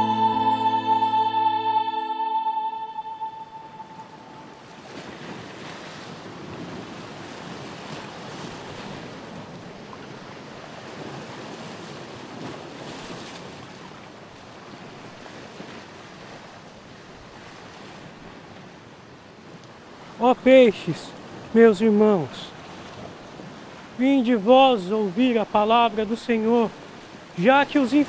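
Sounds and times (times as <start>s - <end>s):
wind: 0.0s - 28.0s
sea waves on rocky shore: 4.5s - 28.0s.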